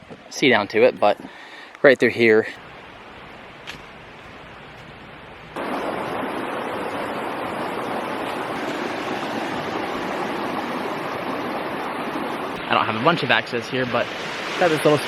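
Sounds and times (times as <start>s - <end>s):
river rushing: 1.2s - 15.0s.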